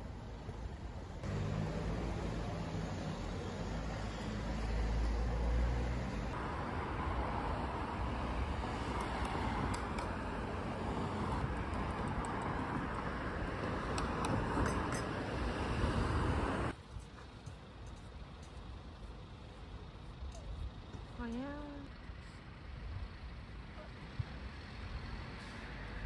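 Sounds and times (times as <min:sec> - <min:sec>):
quiet outdoor ambience: 0:00.0 - 0:26.0
road traffic noise: 0:00.0 - 0:26.0.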